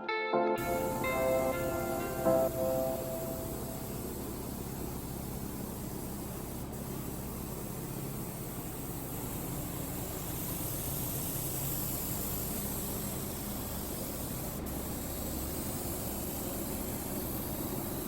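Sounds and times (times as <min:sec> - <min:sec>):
paint spray gun hissing: 0:00.6 - 0:18.0.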